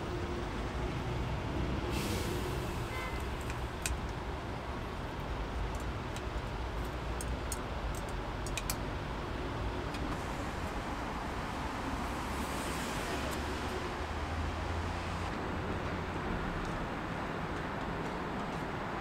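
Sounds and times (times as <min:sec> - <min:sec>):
passing vehicles rumble: 0:00.0 - 0:19.0.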